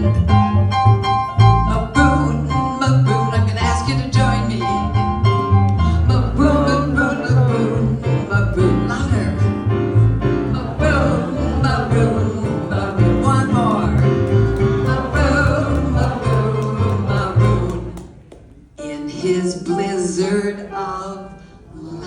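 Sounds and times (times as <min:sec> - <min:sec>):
piano accompaniment: 0:00.0 - 0:22.0.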